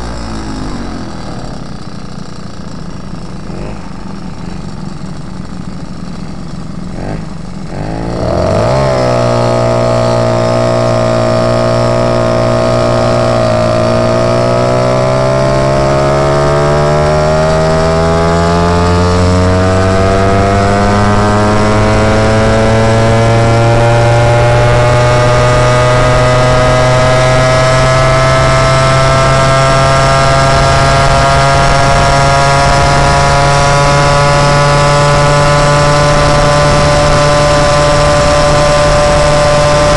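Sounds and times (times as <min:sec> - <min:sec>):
moped engine accelerating: 0:00.0 - 0:39.9.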